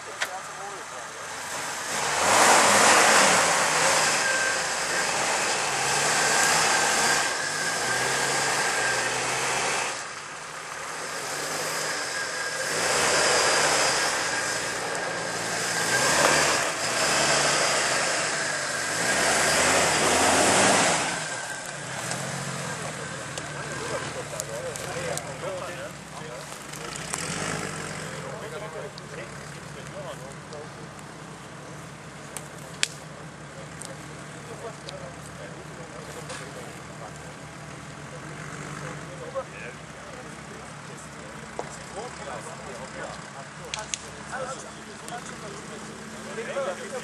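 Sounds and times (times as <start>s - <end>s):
tyres churning dirt: 0.0s - 47.0s
engine revving under load: 0.6s - 30.8s, 32.4s - 47.0s
branches scraping vehicle body: 1.3s - 47.0s.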